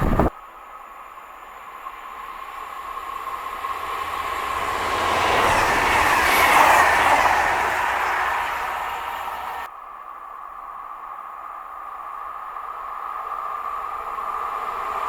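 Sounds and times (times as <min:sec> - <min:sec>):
train passing on rails: 0:00.0 - 0:15.0.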